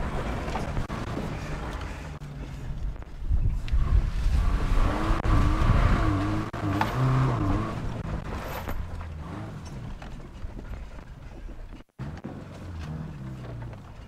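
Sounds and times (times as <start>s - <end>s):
car engine driving over dirt: 0.0s - 14.0s.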